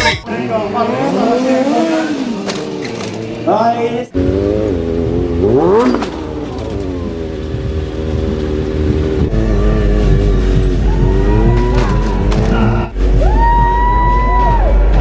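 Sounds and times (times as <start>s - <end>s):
motorcycle engine revving: 0.2s - 13.2s.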